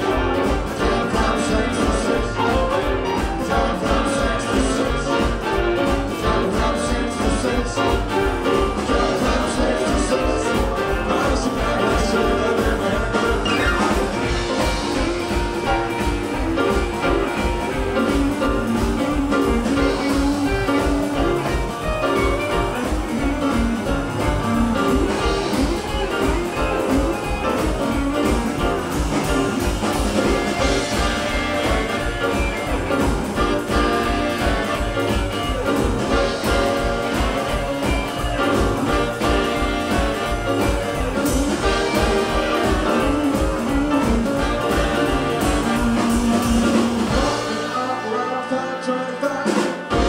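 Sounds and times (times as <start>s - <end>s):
upright bass: 0.0s - 48.5s, 49.4s - 50.0s
electric guitar: 0.0s - 50.0s
saxophone: 0.0s - 50.0s
trumpet: 0.0s - 50.0s.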